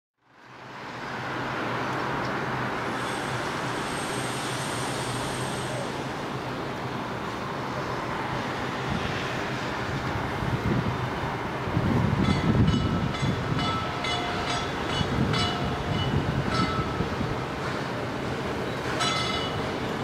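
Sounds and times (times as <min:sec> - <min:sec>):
steam locomotive rumble: 0:01.2 - 0:20.0.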